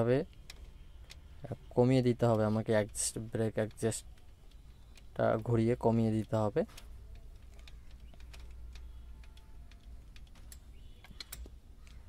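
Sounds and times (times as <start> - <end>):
screwdriver clicking on metal: 2.2 - 12.0.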